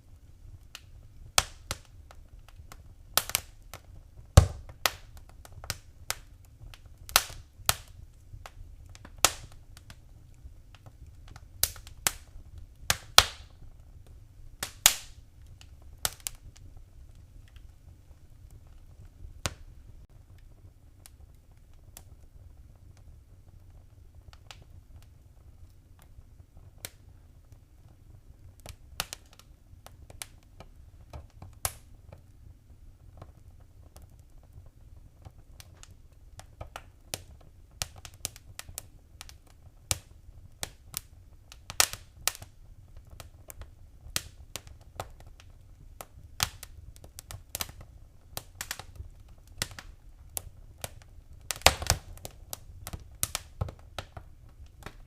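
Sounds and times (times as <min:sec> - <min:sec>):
fire crackling in a fireplace: 0:00.0 - 0:55.0.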